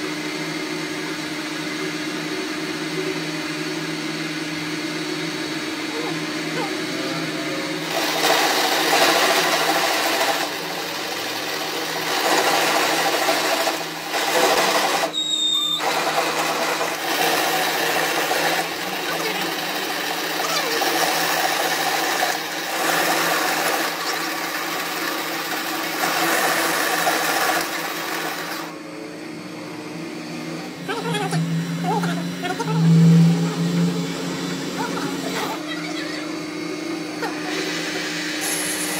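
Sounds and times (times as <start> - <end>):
lathe motor humming: 0.0 - 38.9.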